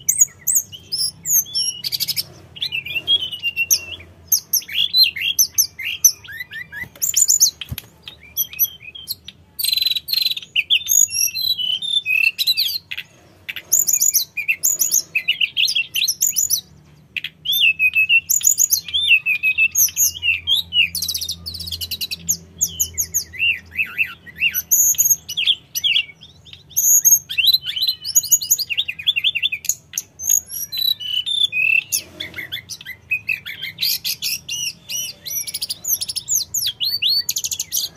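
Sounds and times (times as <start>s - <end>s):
bird singing high whistles and trills: 0.0s - 37.9s.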